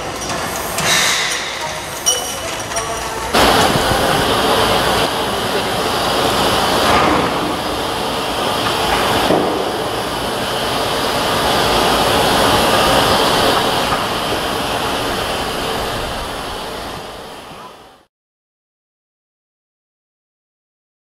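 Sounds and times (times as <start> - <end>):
steam locomotive hissing: 0.0 - 18.1.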